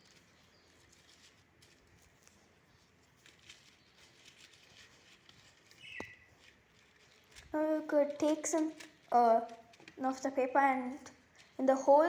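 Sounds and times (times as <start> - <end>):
shredded paper rustling and crinkling: 0.0 - 10.2.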